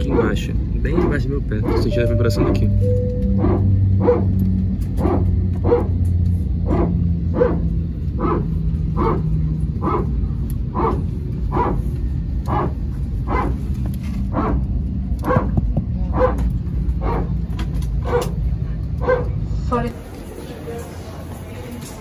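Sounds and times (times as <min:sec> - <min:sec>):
hydraulic pump barking pulses: 0:00.0 - 0:19.4
aircraft low hum: 0:00.0 - 0:21.8.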